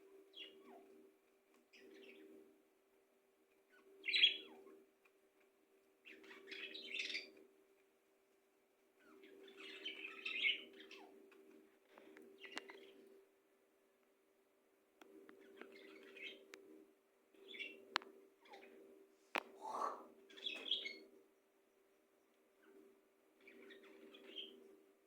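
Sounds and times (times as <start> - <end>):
small birds chirping: 0.0 - 2.6, 3.5 - 7.9, 8.8 - 13.4, 15.0 - 21.2, 22.4 - 25.0.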